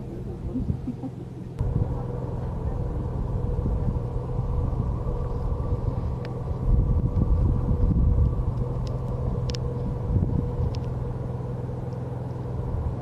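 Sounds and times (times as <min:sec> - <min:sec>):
motor rumbling: 0:00.0 - 0:13.0.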